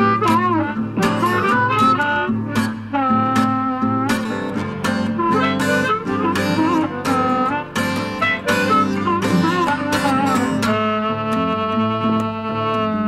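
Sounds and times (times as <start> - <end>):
blues rock band playing: 0.0 - 10.9
lead guitar with bent notes: 0.0 - 13.0.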